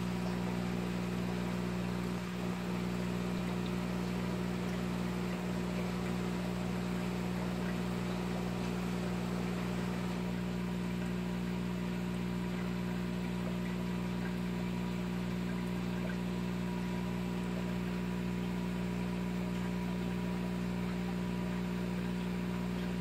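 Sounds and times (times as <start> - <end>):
aquarium air pump humming: 0.0 - 23.0.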